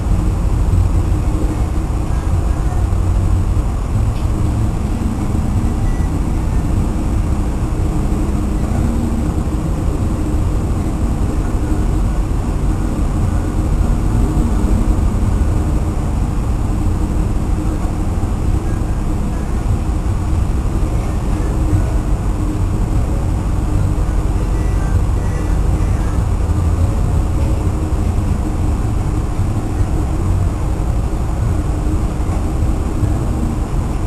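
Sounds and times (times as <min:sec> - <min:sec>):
waves washing along hull: 0:00.0 - 0:34.0
wind rumbling on microphone: 0:00.0 - 0:34.0.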